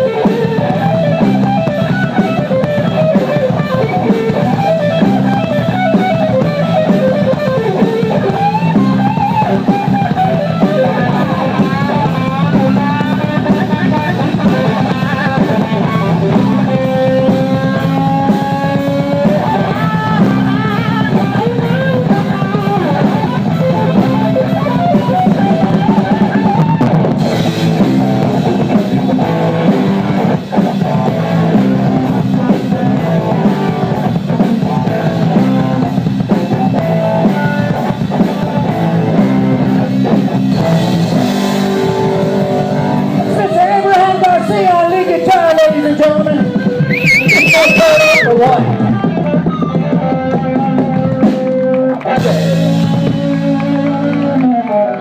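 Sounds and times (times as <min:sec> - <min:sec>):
drum kit beat: 0:00.0 - 0:54.8
bass: 0:00.0 - 0:55.0
electric guitar: 0:00.0 - 0:55.0.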